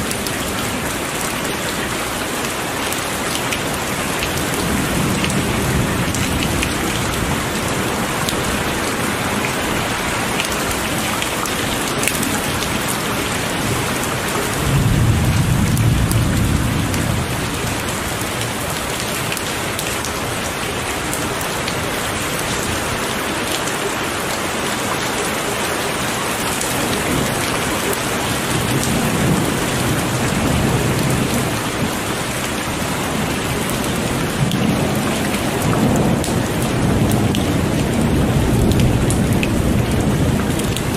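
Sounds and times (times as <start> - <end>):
heavy rain falling: 0.0 - 40.9
thunder rumbling: 3.7 - 23.0, 26.5 - 40.9.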